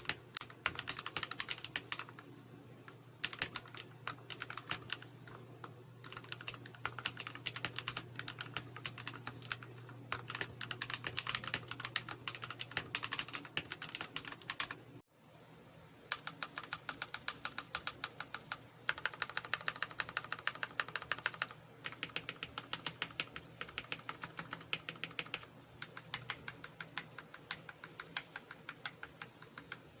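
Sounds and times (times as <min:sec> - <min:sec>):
mechanical keyboard typing: 0:00.0 - 0:14.8, 0:16.0 - 0:30.0.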